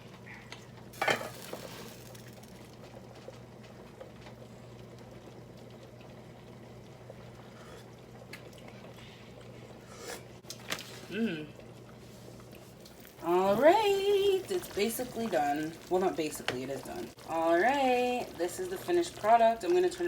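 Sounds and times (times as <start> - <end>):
soup boiling in a pot: 0.6 - 20.0.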